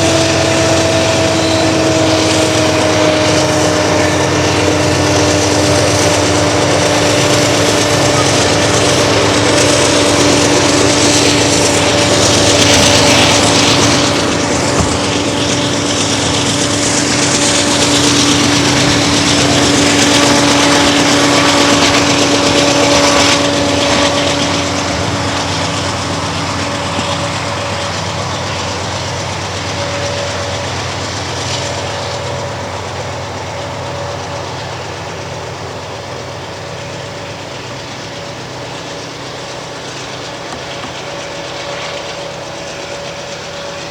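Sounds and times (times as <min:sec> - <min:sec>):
locomotive engines at full throttle: 0:00.0 - 0:43.9.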